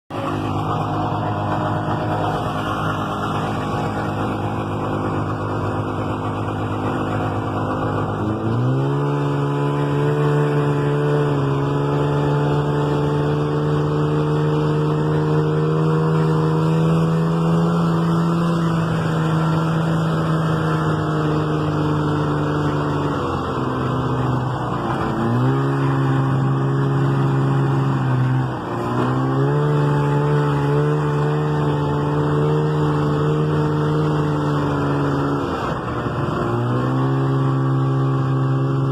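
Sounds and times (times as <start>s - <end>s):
snowmobile engine running: 0.1s - 38.9s.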